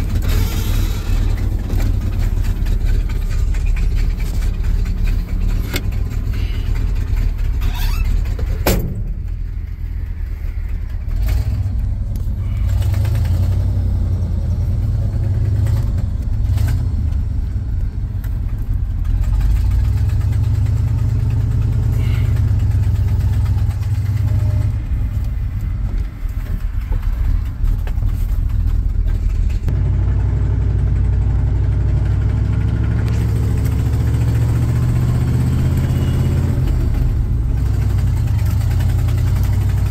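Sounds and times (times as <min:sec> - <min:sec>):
truck engine drone from inside cab: 0:00.0 - 0:39.9.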